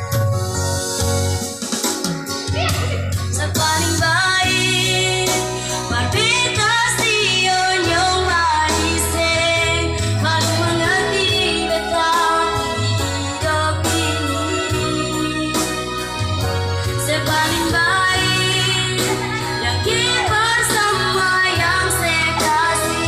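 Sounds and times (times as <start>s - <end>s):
electronic keyboard: 0.0s - 23.0s
steady bass line: 2.5s - 23.0s
woman singing pop ballad: 2.5s - 23.0s.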